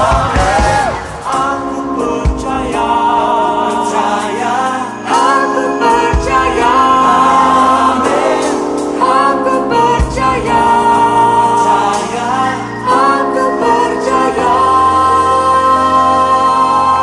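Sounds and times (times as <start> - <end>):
choir singing gospel song: 0.0 - 17.0
instrumental backing: 0.0 - 17.0.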